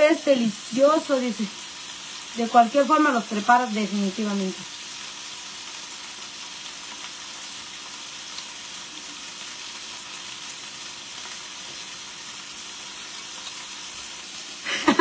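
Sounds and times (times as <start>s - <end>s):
food frying in oil: 0.0s - 15.0s.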